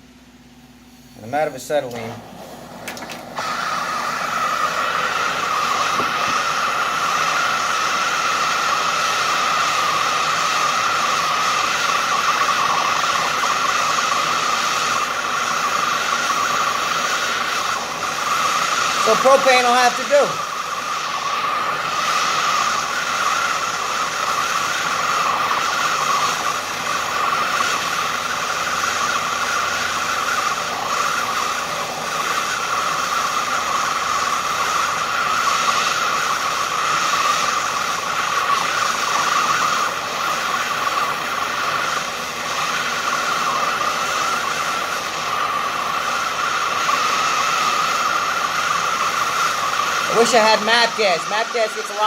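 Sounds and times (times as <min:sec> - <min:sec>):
propane torch burning: 0:00.0 - 0:52.0.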